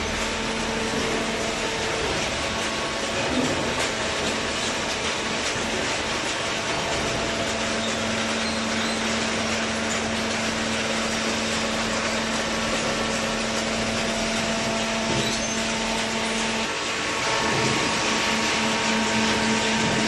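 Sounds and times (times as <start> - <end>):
hydraulic baler running: 0.0 - 20.0.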